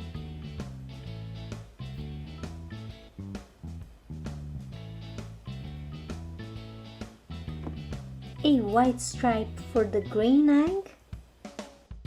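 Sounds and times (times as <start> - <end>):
upbeat music with plucked guitar: 0.0 - 12.0.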